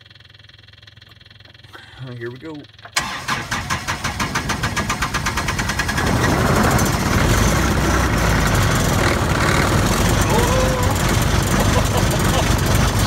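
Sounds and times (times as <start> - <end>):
diesel engine running: 0.0 - 13.0
starter motor cranking: 0.3 - 13.0.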